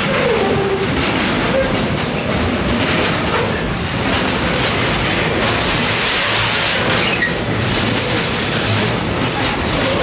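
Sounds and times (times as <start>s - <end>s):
train wheels on rails: 0.0s - 10.0s.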